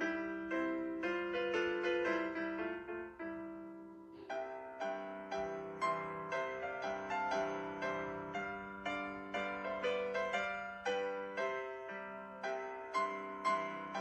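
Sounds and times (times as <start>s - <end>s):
piano playing: 0.0s - 14.0s.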